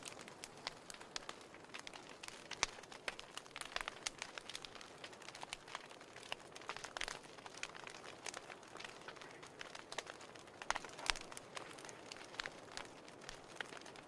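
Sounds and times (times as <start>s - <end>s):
fire crackles and pops: 0.0s - 14.0s
fire hissing: 0.0s - 14.0s.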